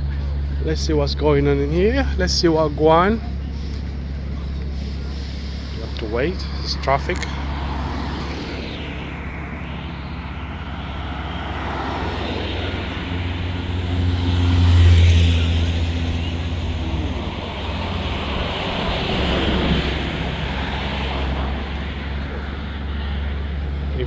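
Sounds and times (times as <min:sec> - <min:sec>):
heavy vehicle engine droning past: 0:00.0 - 0:24.0
traffic hum: 0:00.0 - 0:24.0
vehicle passing: 0:00.0 - 0:24.0.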